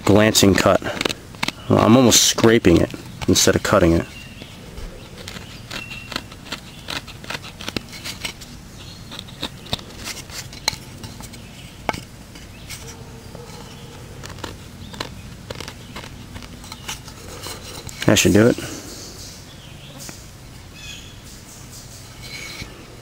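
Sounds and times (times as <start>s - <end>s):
knife scraping wood: 0.0s - 19.4s, 22.0s - 23.0s.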